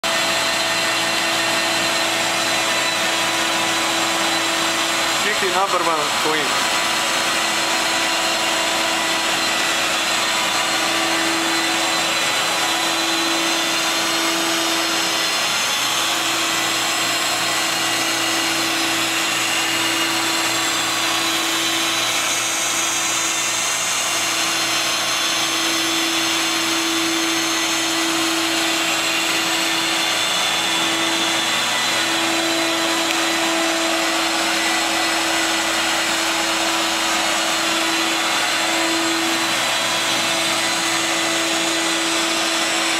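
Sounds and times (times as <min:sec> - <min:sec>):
carpet extraction machine whirring: 0:00.0 - 0:42.9.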